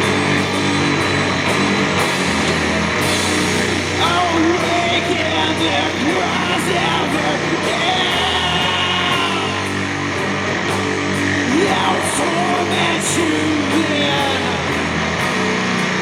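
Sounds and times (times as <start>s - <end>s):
doom metal band playing: 0.0s - 16.0s.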